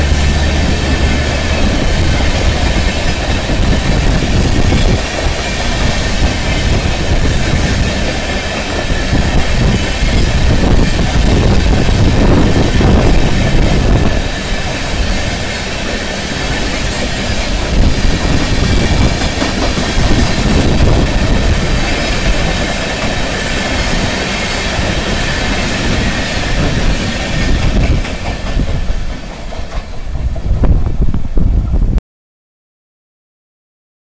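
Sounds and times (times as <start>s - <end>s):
train rushing past: 0.0s - 31.8s.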